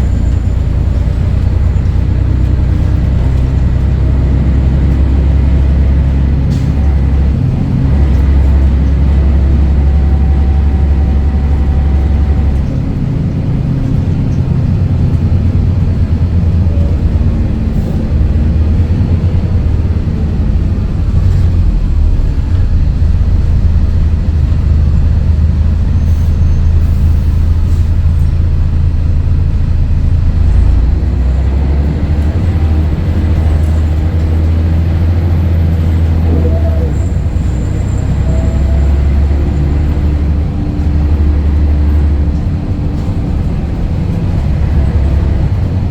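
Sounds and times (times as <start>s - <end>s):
bus diesel engine droning: 0.0s - 45.9s.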